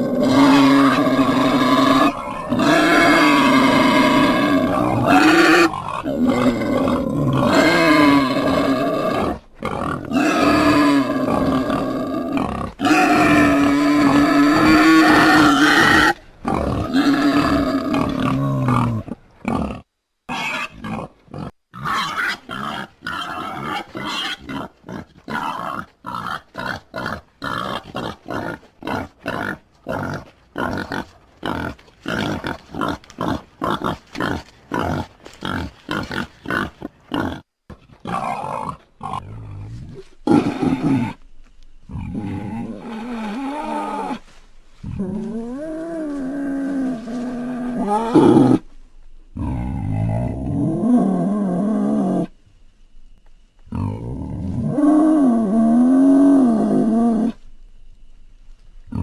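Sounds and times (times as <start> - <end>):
wild boar grunting: 0.0 - 41.2, 41.9 - 48.7, 53.7 - 57.4
wild boar pitched calls: 0.0 - 41.2, 41.9 - 48.7.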